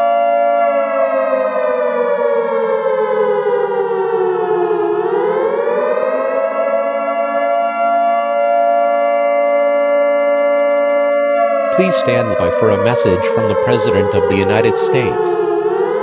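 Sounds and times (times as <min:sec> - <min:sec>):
siren-style alarm tone: 0:00.0 - 0:16.0.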